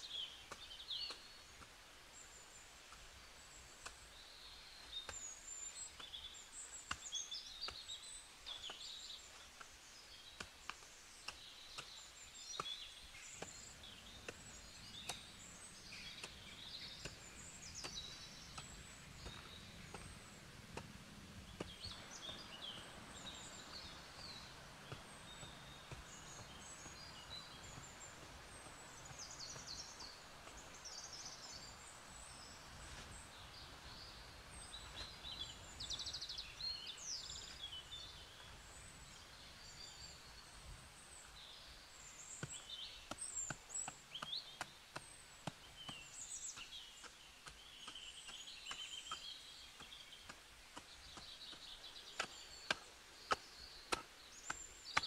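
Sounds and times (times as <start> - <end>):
birds chirping and trilling: 0.0 - 55.0
low forest hum: 0.0 - 55.0.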